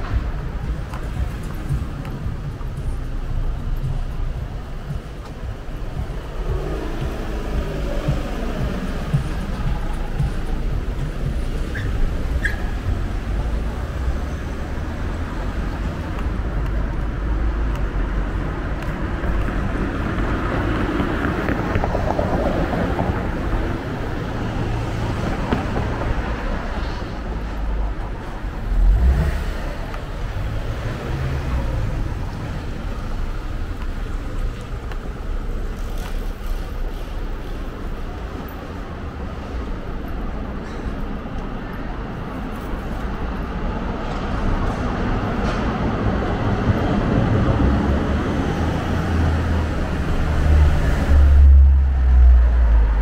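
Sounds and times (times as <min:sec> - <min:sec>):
cars passing: 0:00.0 - 0:53.0.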